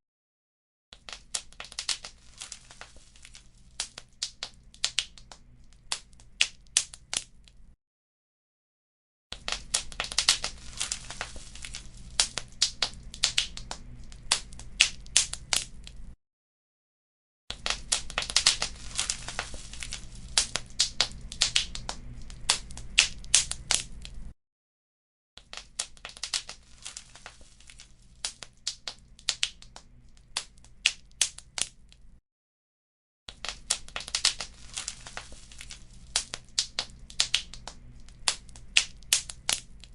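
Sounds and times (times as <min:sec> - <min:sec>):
wood fire crackling: 0:01.0 - 0:07.6, 0:09.4 - 0:16.2, 0:17.5 - 0:24.3, 0:25.5 - 0:32.0, 0:33.4 - 0:39.9.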